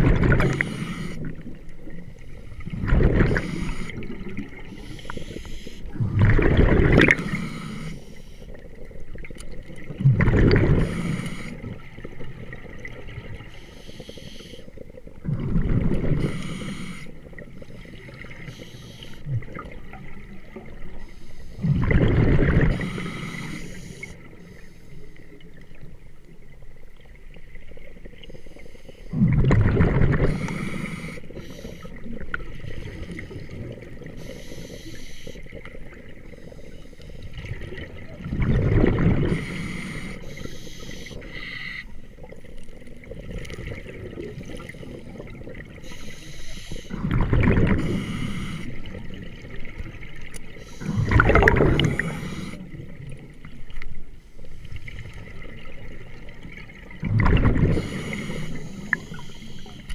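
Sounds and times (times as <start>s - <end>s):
underwater bubble bursts: 0.0s - 7.8s, 8.5s - 13.9s, 14.8s - 21.0s, 21.6s - 24.4s, 29.1s - 34.3s, 37.1s - 41.3s, 42.1s - 46.0s, 46.8s - 54.0s, 54.6s - 59.9s.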